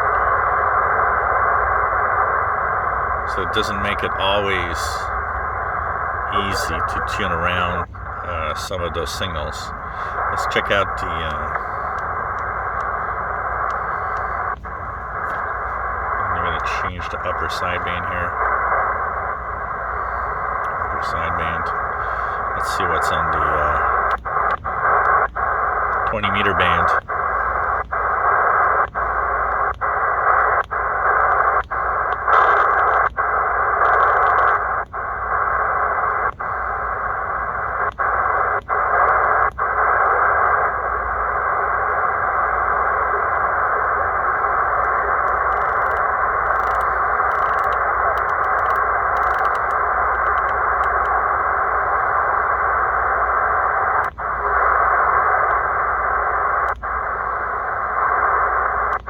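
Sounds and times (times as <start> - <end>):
radio receiver hissing band noise: 0.0 - 59.0.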